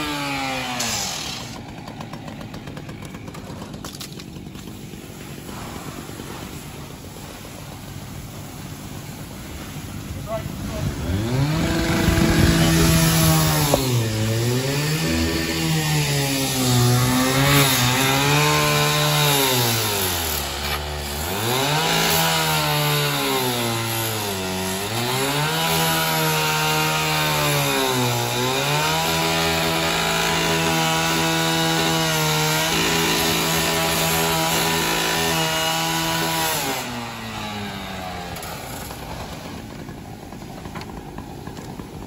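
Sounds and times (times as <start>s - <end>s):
gas-powered saw cutting metal: 0.0s - 5.7s, 10.2s - 40.0s.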